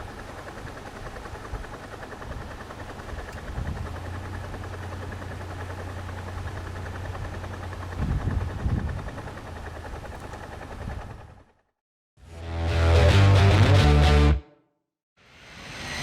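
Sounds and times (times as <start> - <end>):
vehicle engine running: 0.0 - 14.3.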